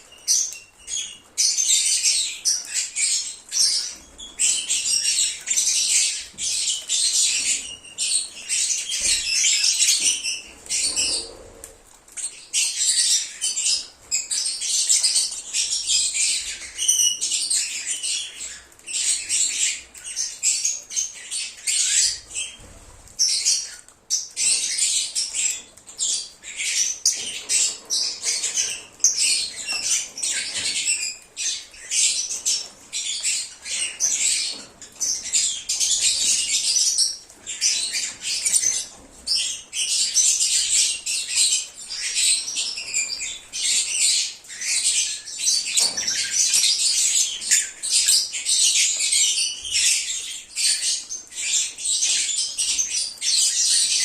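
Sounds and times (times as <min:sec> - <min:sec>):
lovebirds chirping and squawking: 0:00.0 - 0:54.0.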